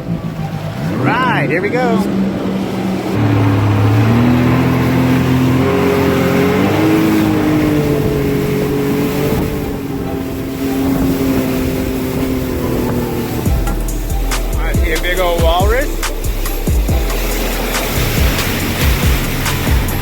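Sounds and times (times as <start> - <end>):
jet ski engine accelerating: 0.0 - 20.0
wind and water noise: 0.0 - 20.0.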